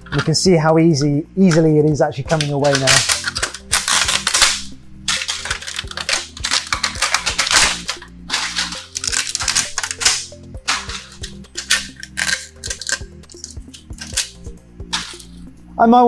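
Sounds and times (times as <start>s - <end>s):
plastic snapping and crackling: 2.3s - 15.5s.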